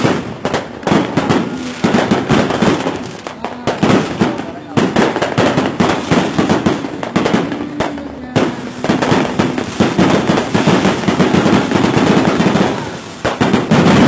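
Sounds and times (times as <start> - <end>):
fireworks bangs: 0.0 - 14.0
fireworks crackling and popping: 0.0 - 14.0.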